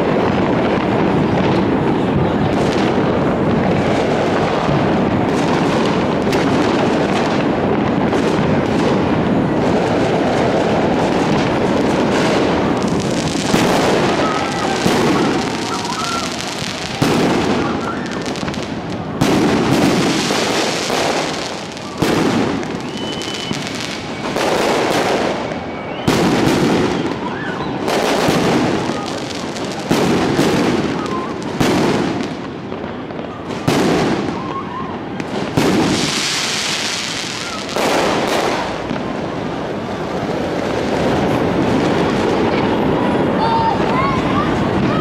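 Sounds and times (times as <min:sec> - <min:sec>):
fireworks bangs: 0:00.0 - 0:45.0
fireworks crackle: 0:00.0 - 0:45.0.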